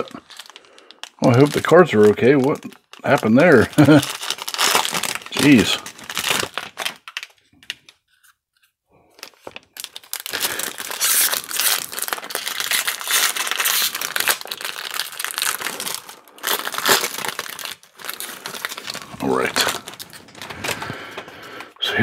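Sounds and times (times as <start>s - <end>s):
foil wrapper crinkling and tearing: 0.0s - 8.4s, 9.1s - 21.7s.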